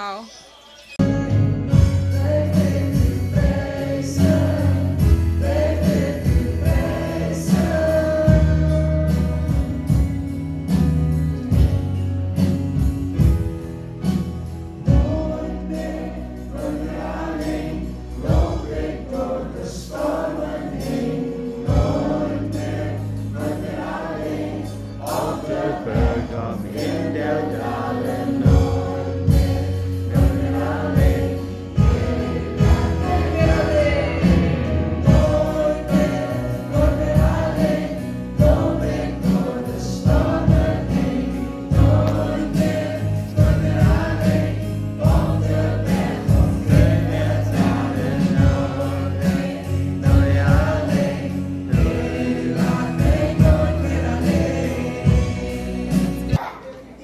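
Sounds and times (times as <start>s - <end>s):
choir singing gospel music: 0.0s - 57.0s.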